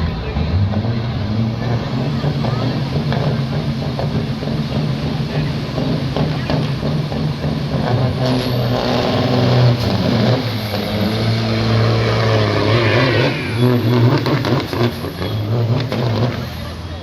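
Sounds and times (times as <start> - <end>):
diesel truck engines roaring: 0.0 - 17.0.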